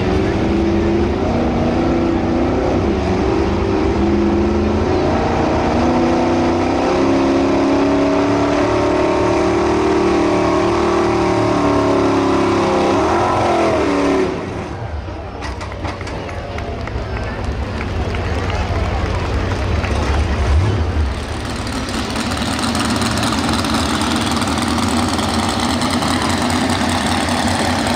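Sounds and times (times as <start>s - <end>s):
truck engine at full throttle: 0.0s - 27.9s.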